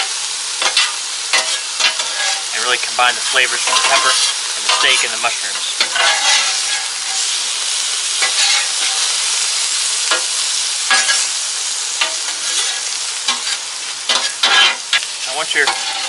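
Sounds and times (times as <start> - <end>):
spatula scraping and tapping griddle: 0.0 - 7.3, 8.2 - 9.2, 10.1 - 11.3, 12.0 - 16.0
food sizzling on a griddle: 0.0 - 16.0.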